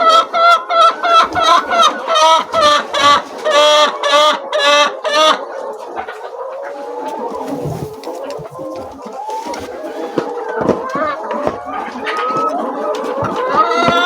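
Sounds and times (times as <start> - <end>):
flock of chickens clucking: 0.0 - 14.0
hen clucking loudly: 0.0 - 14.0.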